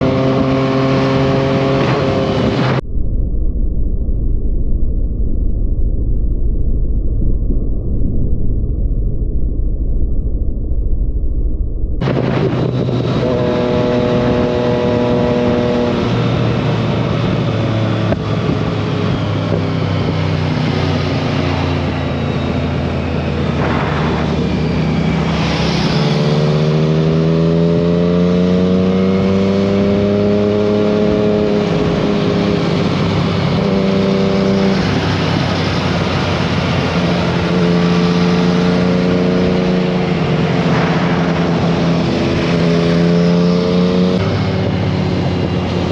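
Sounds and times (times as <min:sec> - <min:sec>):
motorcycle engine accelerating: 0:00.0 - 0:02.8, 0:12.0 - 0:45.9
steady rushing noise: 0:01.2 - 0:27.7, 0:30.0 - 0:45.9.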